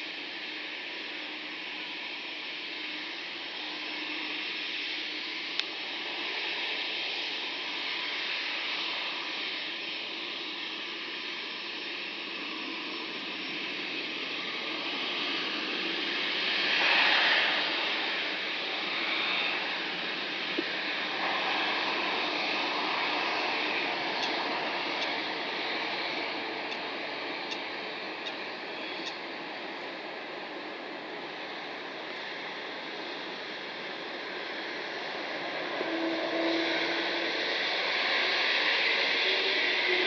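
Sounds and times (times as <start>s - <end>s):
jet engines whining: 0.0s - 40.0s.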